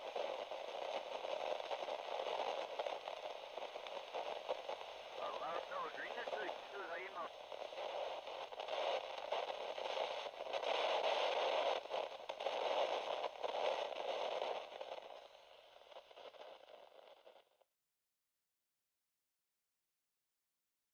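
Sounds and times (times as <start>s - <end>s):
radio static crackling hiss: 0.0s - 17.4s.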